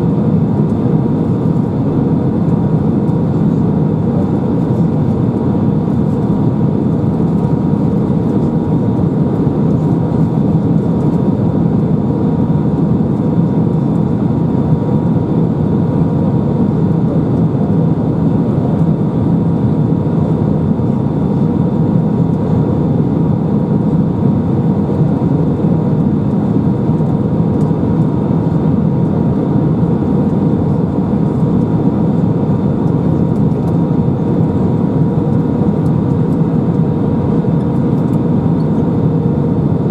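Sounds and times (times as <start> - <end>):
jet engine cabin rush: 0.0 - 39.9.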